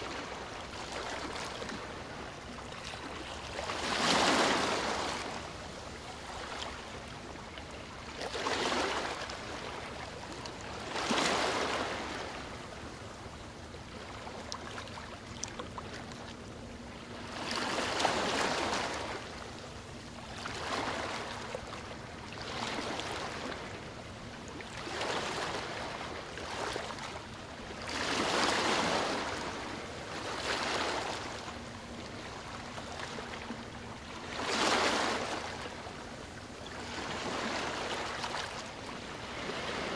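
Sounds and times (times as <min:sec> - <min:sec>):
small waves washing onto riverbank: 0:00.0 - 0:39.9.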